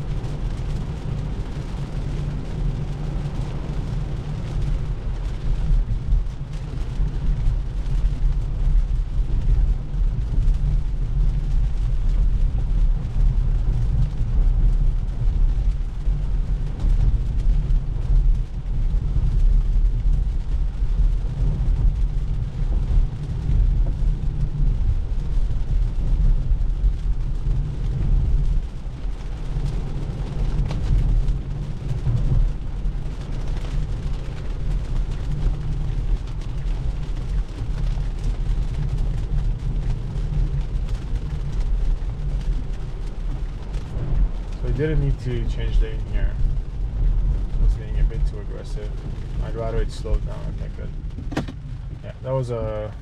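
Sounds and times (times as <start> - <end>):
tyre noise on wet road: 0.0 - 53.0.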